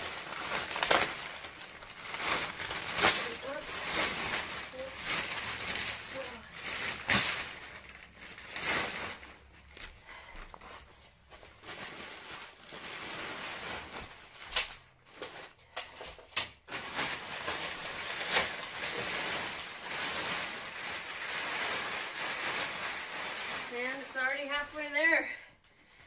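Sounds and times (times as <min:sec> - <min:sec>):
plastic wrapping rustling: 0:00.0 - 0:26.0.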